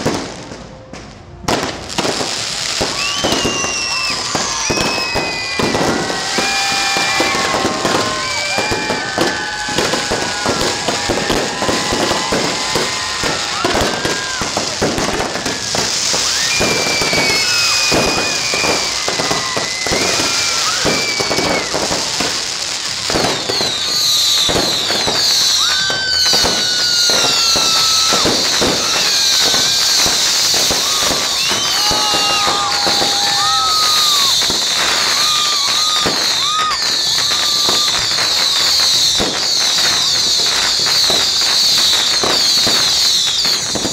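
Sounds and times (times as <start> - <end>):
fireworks bangs and crackles: 0.0 - 43.9
fireworks whistles: 0.0 - 43.9.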